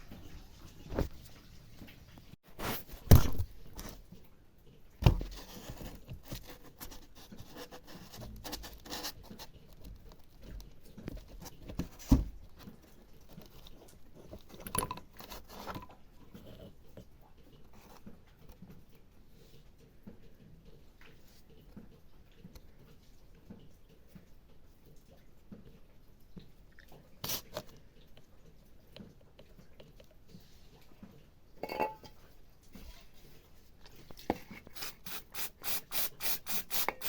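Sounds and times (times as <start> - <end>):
small scrapes and ticks: 0.1 - 35.5.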